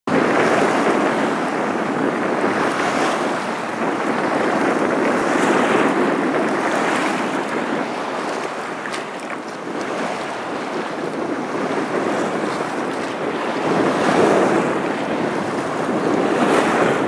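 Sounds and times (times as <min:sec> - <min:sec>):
waves washing up a beach: 0:00.1 - 0:17.0.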